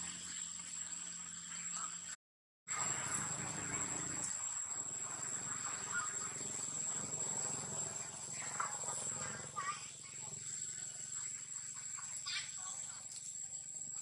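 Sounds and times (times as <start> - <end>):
insects droning: 0.0 - 14.0
outdoor ambience: 0.0 - 14.0.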